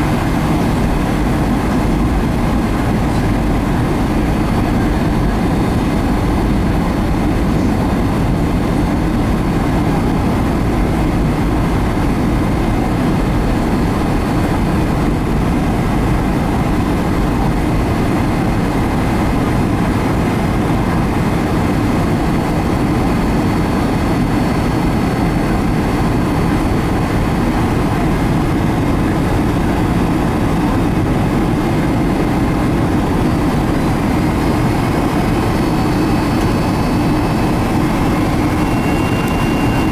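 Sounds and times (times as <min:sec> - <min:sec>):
airplane cabin roar: 0:00.0 - 0:39.9
jet engine whine: 0:00.0 - 0:39.9.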